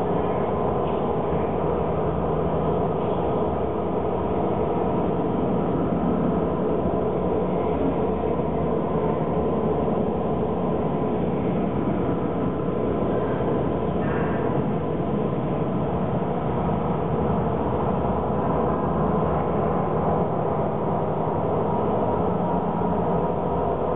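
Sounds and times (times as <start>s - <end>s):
steady low drone: 0.0s - 23.9s.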